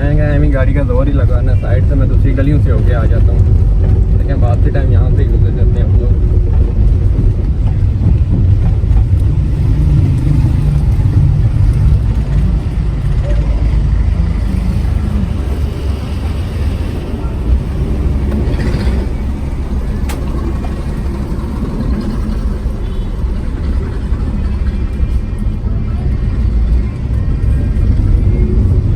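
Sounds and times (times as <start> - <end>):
car engine running: 0.0 - 28.9
road rumble in car cabin: 0.0 - 28.9.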